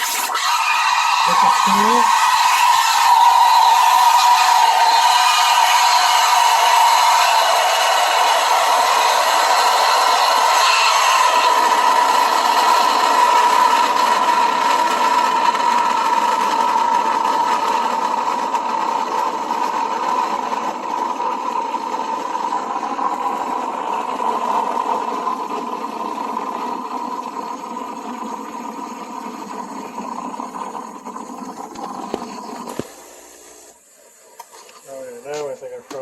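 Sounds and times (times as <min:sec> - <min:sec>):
steam wand frothing milk: 0:00.0 - 0:36.0.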